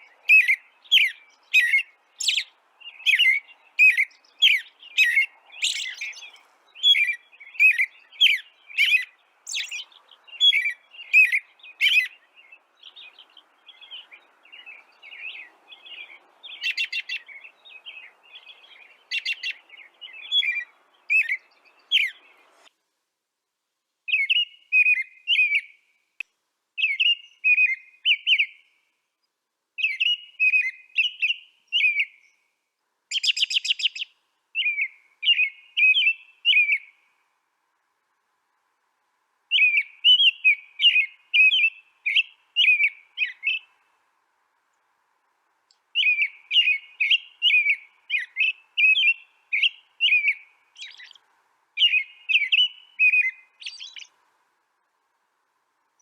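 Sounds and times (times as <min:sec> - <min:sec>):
bird chirping: 0:00.0 - 0:22.7, 0:24.1 - 0:25.9, 0:26.8 - 0:32.5, 0:33.1 - 0:37.3, 0:39.5 - 0:44.0, 0:45.7 - 0:54.2.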